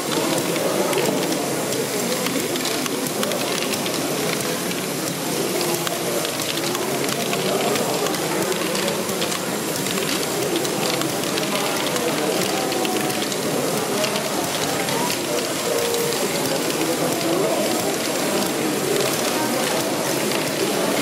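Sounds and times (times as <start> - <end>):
crowd voices: 0.0 - 21.0
toy machines clicking and clattering: 0.0 - 21.0.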